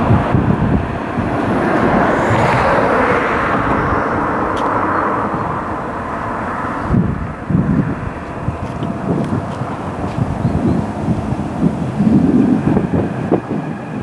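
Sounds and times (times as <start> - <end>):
train rumbling on tracks: 0.0 - 14.0
wind buffeting microphone: 0.0 - 14.0.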